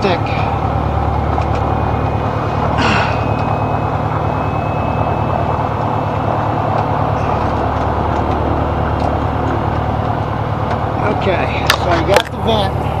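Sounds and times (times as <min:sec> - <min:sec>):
faint high whine: 0:00.0 - 0:13.0
propeller plane engine running: 0:00.0 - 0:13.0.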